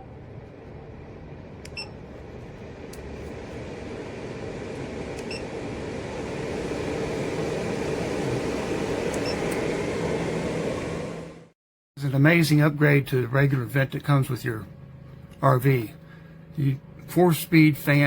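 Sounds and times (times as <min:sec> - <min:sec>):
vent fan rushing air: 0:00.0 - 0:18.0.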